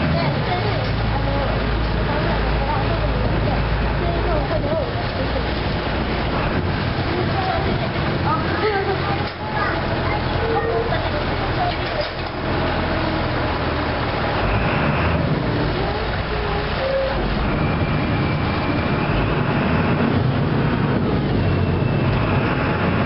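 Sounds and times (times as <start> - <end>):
boat diesel engine rumble: 0.0 - 23.0.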